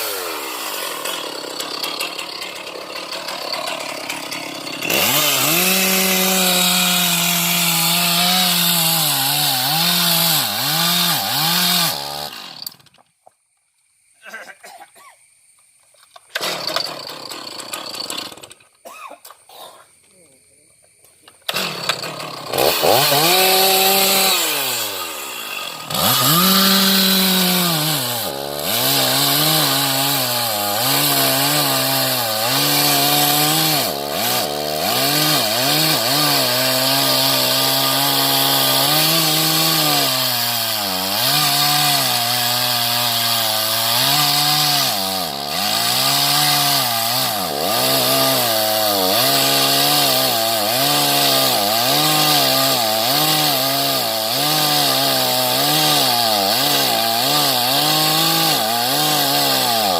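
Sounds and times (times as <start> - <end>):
chainsaw cutting wood: 0.0 - 13.0, 16.2 - 18.9, 21.4 - 59.9.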